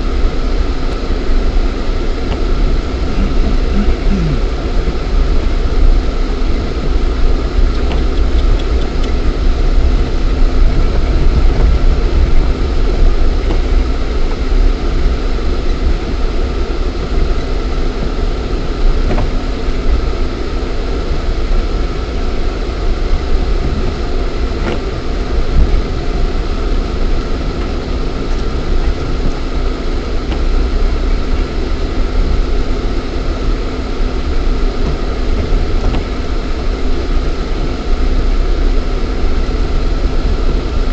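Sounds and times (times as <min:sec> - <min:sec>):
car engine rumble from cabin: 0:00.0 - 0:40.9.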